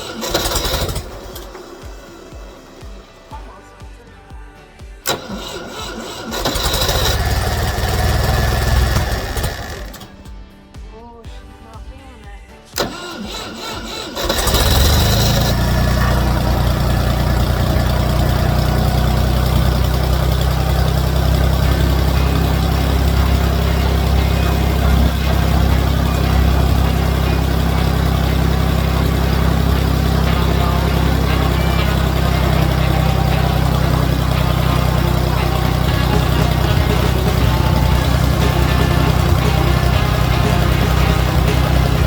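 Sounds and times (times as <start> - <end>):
tractor engine starting and idling: 0.0 - 3.5, 5.0 - 10.3, 12.8 - 42.0.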